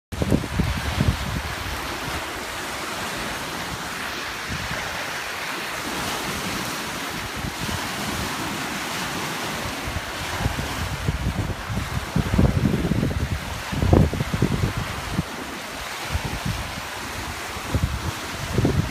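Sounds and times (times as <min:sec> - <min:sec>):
wind rumbling on microphone: 0:00.1 - 0:18.9
waves washing onto pebble shore: 0:00.2 - 0:18.9.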